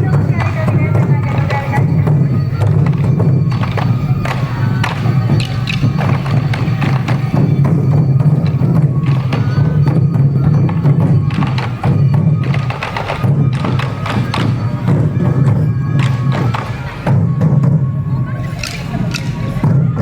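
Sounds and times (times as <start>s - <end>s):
bamboo flutes playing: 0.0s - 20.0s
taiko drums beating: 0.0s - 20.0s.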